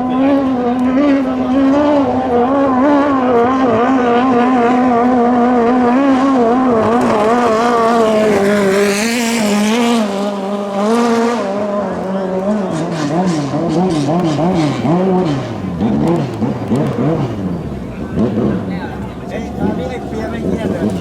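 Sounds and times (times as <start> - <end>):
racing boat engine at high revs: 0.0 - 21.0.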